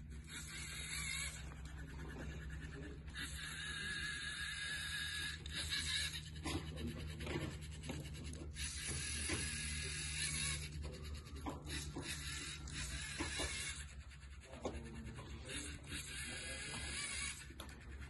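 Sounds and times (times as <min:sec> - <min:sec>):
robot motors and gears whirring: 0:00.0 - 0:18.0
steady low hum: 0:00.0 - 0:18.0.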